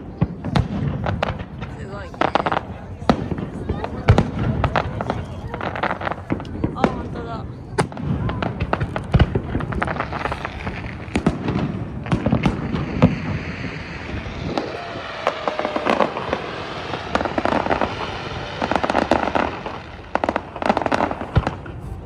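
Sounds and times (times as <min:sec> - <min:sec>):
crackling firework pops: 0:00.0 - 0:22.0.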